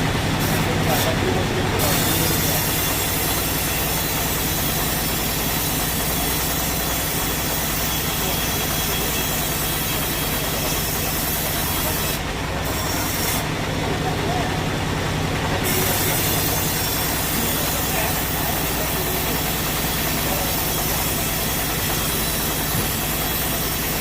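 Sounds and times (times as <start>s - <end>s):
saw cutting through log: 0.0s - 24.0s.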